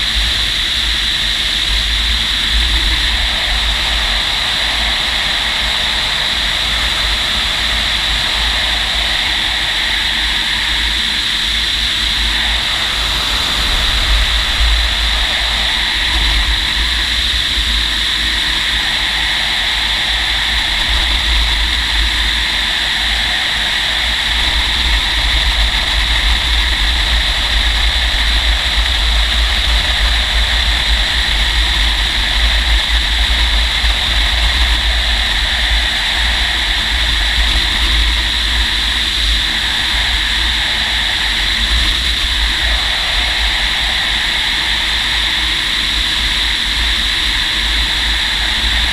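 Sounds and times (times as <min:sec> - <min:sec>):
airflow rush with hissing whine: 0:00.0 - 0:48.9
wind buffeting microphone: 0:00.0 - 0:48.9.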